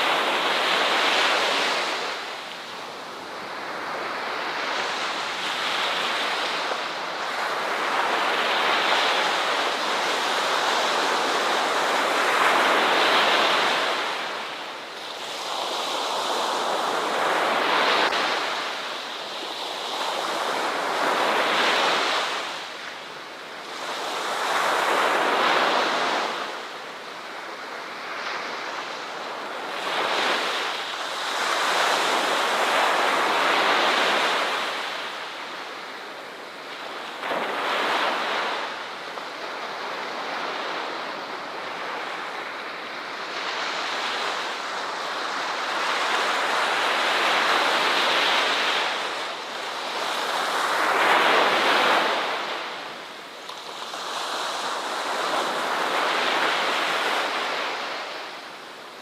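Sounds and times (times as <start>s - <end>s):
waves washing onto shore: 0.0s - 59.0s.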